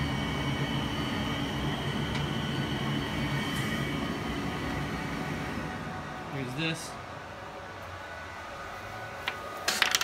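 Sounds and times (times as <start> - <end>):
fume extraction fan humming: 0.0 - 10.0.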